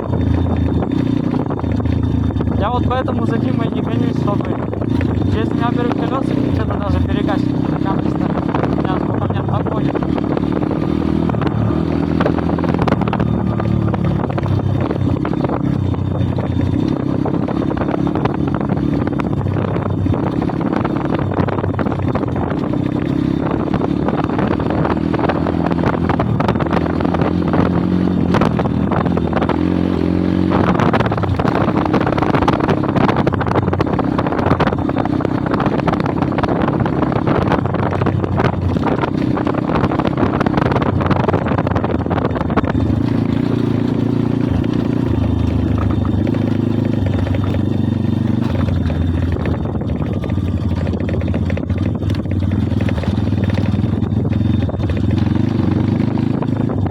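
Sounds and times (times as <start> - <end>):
pit bike engine revving: 0.0 - 56.9.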